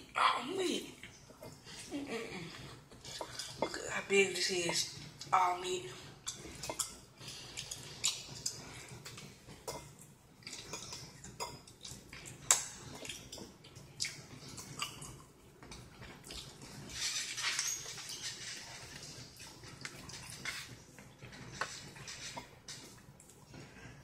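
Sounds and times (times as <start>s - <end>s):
chewing and smacking: 1.0s - 3.8s, 6.0s - 24.0s.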